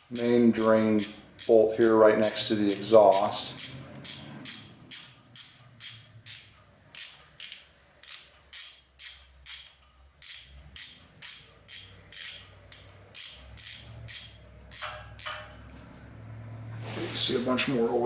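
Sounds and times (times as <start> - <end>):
ratchet wrench clicking: 0.0 - 15.6.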